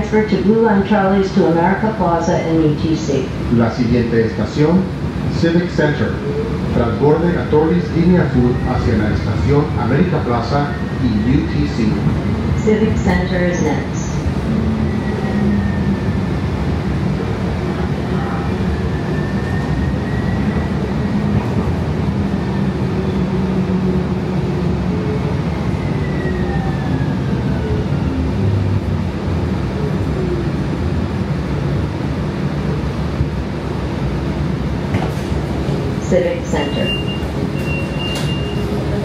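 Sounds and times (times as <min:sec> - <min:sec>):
light-rail car rumble: 0:00.0 - 0:39.0.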